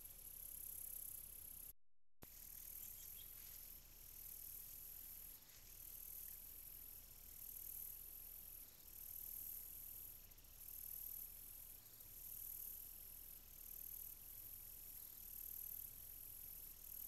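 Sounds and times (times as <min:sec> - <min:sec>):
insects trilling: 0:00.0 - 0:01.6, 0:02.2 - 0:17.0.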